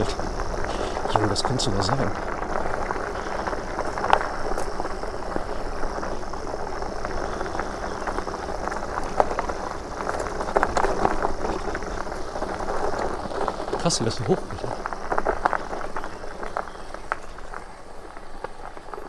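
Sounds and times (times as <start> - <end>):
bike tyres rolling over dirt: 0.0 - 19.0.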